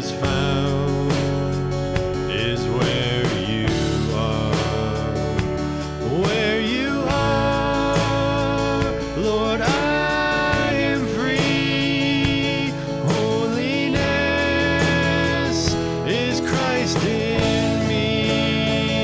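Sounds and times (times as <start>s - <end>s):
guitar and band playing: 0.0s - 19.0s
person singing: 0.0s - 19.0s.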